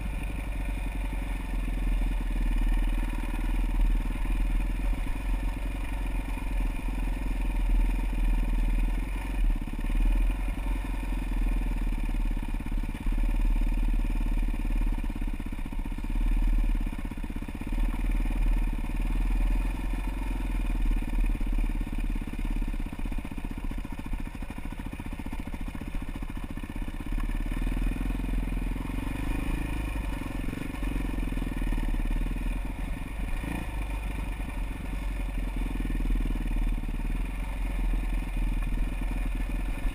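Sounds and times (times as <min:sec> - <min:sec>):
motorcycle engine running: 0:00.0 - 0:39.9
motorcycle rattling and knocking: 0:00.0 - 0:39.9.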